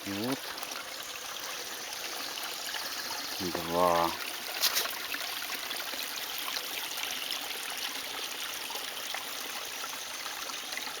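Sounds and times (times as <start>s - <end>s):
water dripping: 0.0s - 11.0s
water trickling and splashing: 0.0s - 11.0s.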